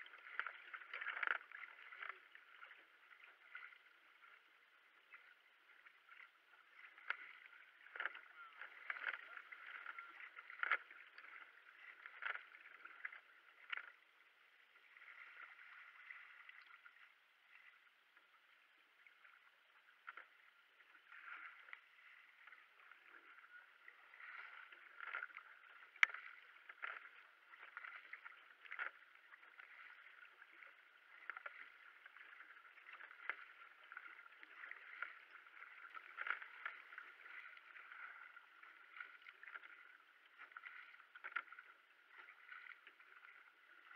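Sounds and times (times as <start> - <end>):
kayak paddle splashing in water: 0.0 - 43.9
water washing along hull: 0.0 - 43.9.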